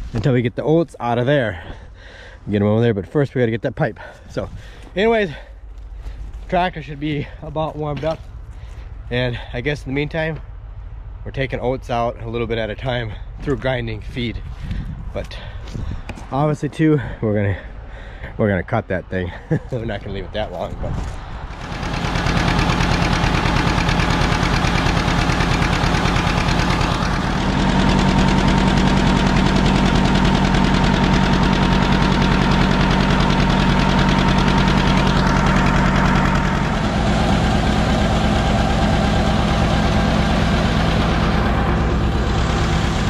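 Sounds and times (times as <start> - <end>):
tractor engine running: 4.0 - 16.7, 19.7 - 43.0.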